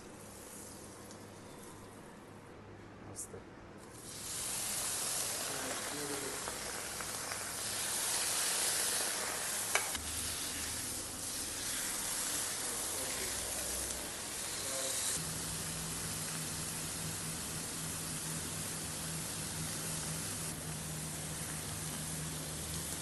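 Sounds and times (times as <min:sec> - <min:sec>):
food sizzling in a pan: 0:03.9 - 0:23.0.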